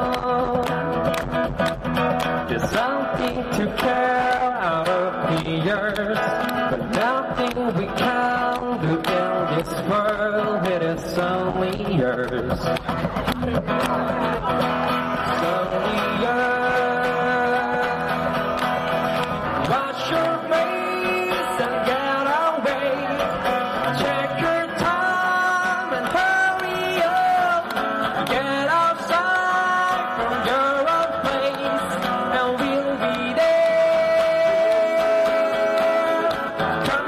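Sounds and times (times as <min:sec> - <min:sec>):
guitar accompaniment: 0:00.0 - 0:37.0
man singing pop-rock song: 0:00.0 - 0:37.0.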